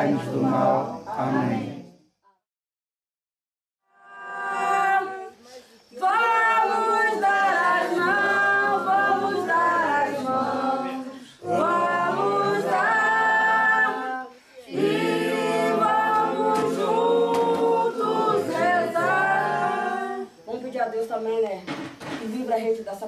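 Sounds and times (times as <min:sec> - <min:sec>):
group singing unaccompanied: 0:00.0 - 0:02.0, 0:04.0 - 0:20.6.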